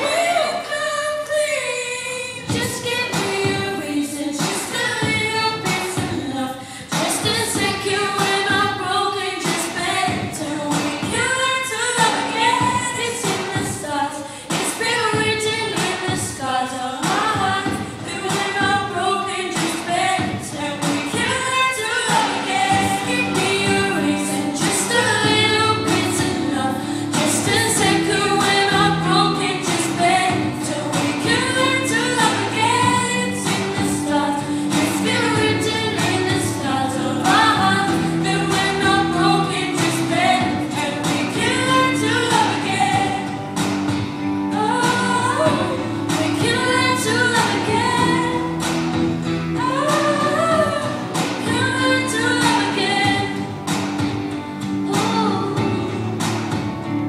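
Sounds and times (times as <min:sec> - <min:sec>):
person singing pop song: 0:00.0 - 0:57.0
held backing chords: 0:02.4 - 0:57.0.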